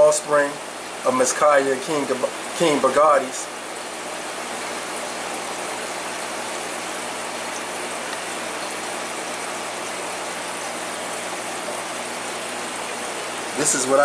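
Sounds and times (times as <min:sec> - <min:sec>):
aquarium air stone bubbling: 0:00.0 - 0:14.0
low mechanical hum: 0:00.0 - 0:14.0.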